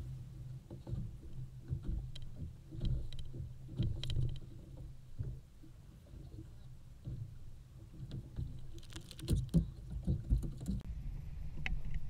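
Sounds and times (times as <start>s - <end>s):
small waves slapping a hull: 0.0s - 10.9s.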